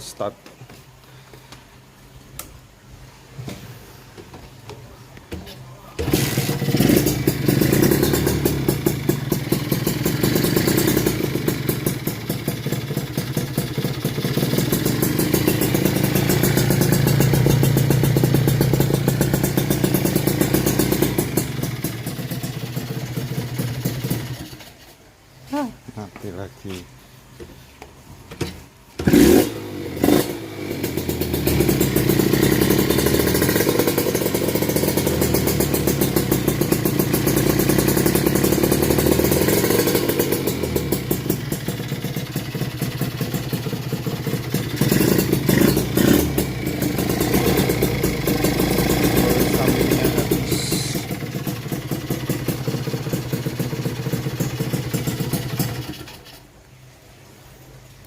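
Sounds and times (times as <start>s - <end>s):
motorcycle engine starting and revving: 6.0s - 25.7s, 28.4s - 56.6s.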